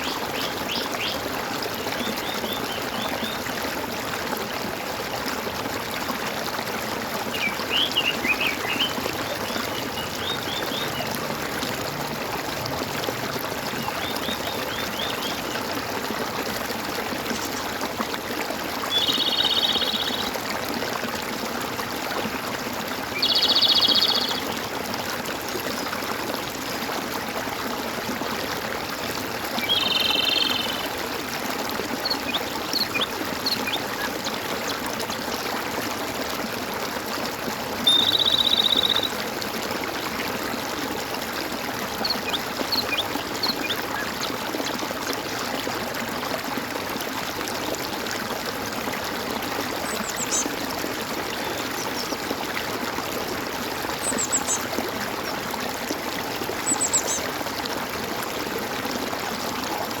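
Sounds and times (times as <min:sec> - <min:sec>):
water gurgling and trickling: 0:00.0 - 1:00.0.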